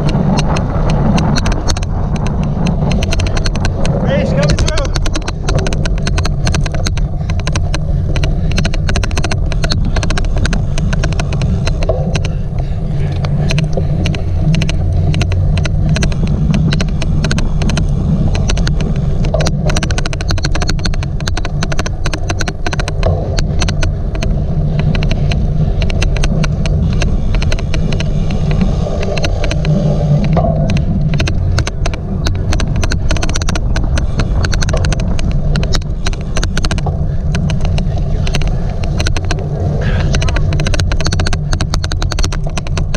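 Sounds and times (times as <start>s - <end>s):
bike clicking: 0.0s - 42.9s
wind on microphone: 0.0s - 42.9s.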